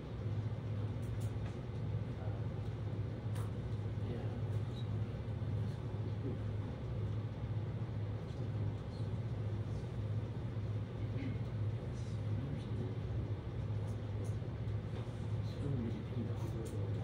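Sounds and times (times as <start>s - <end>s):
low machinery hum: 0.0s - 17.0s.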